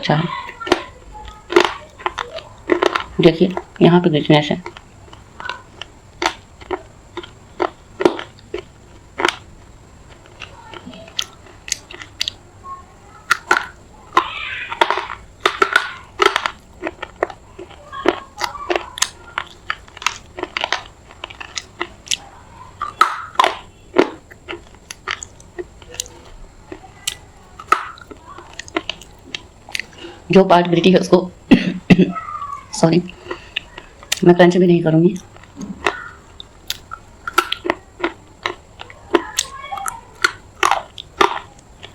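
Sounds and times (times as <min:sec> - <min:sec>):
chewing and crunching clay: 0:00.0 - 0:34.4, 0:35.0 - 0:41.9.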